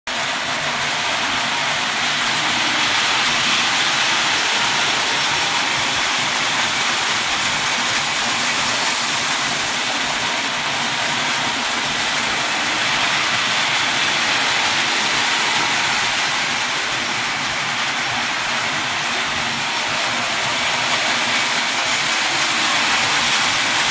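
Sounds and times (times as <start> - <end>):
toy train motors whirring: 0.1 - 23.9
wheels rattling on rails: 0.1 - 23.9.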